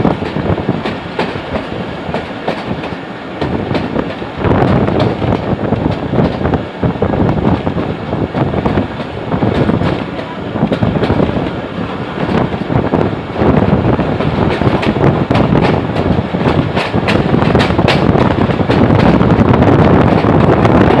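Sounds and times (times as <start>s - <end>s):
train running rumble: 0.0s - 21.0s
wheels clicking over rails: 0.0s - 21.0s
wind on microphone: 0.0s - 21.0s.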